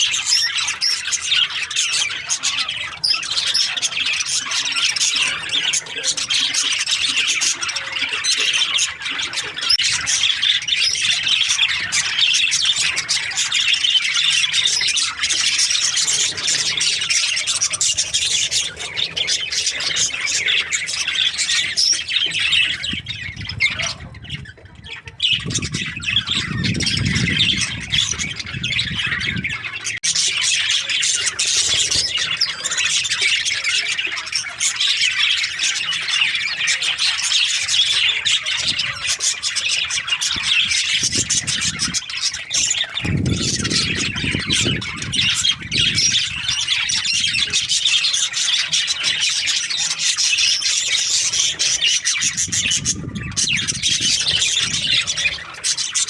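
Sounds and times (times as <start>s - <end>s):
budgies chattering and squawking: 0.0s - 56.0s.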